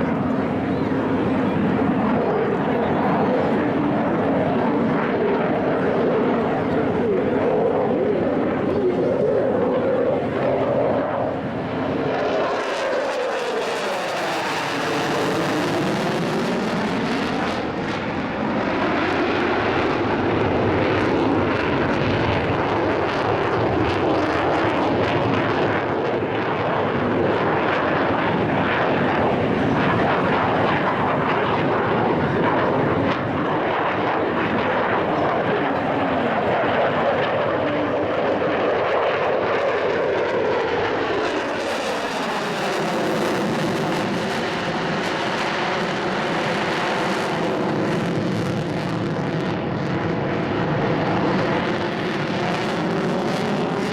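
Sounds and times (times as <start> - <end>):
jet engine roar: 0.0 - 53.9.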